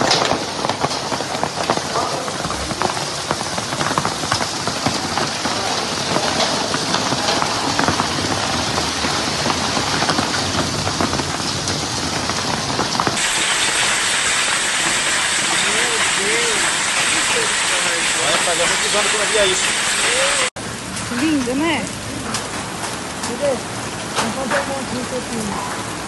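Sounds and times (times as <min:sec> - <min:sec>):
hailstones pelting down: 0:00.0 - 0:26.0
heavy rain rushing: 0:00.0 - 0:26.0.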